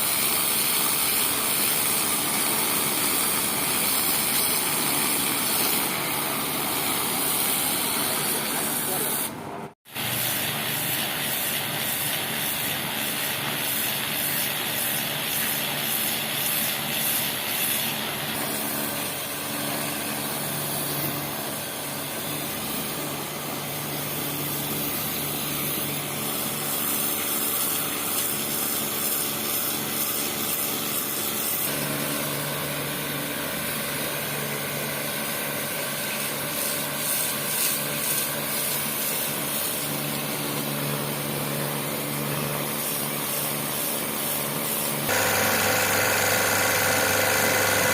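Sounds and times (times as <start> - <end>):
pressure washer spraying: 0.0 - 47.9.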